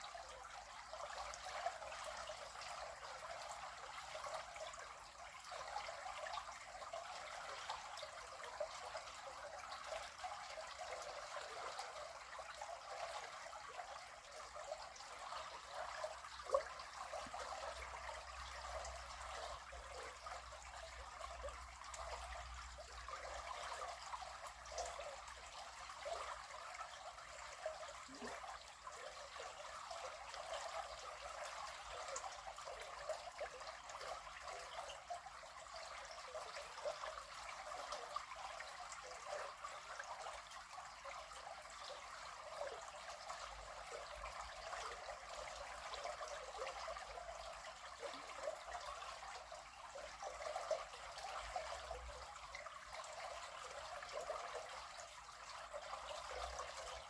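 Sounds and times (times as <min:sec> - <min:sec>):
river water trickling: 0:00.0 - 0:57.0.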